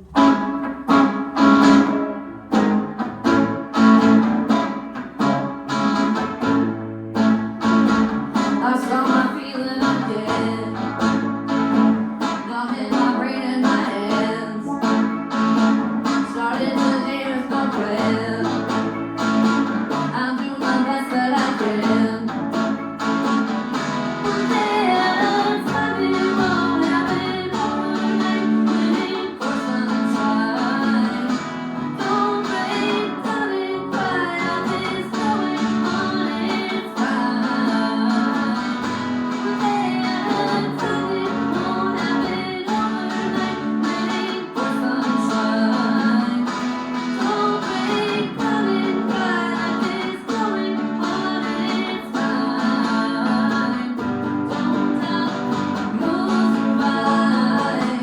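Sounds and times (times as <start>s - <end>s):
strummed acoustic guitar: 0.0s - 58.0s
person singing: 8.2s - 22.8s, 24.2s - 58.0s.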